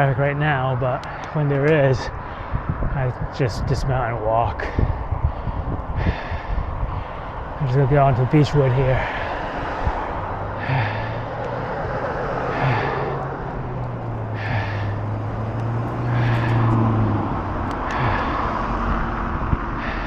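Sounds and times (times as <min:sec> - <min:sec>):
bicycle road noise: 0:00.0 - 0:20.0
motor vehicle hum: 0:00.0 - 0:20.0.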